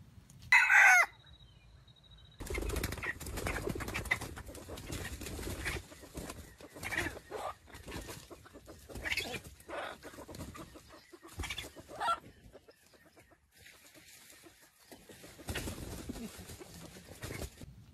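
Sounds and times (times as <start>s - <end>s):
junglefowl clucking: 3.0s - 17.6s.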